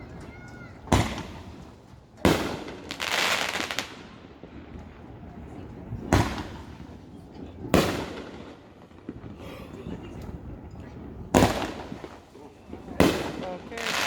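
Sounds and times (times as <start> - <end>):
fireworks booming: 0.0 - 14.0
fireworks crackling: 0.0 - 14.0.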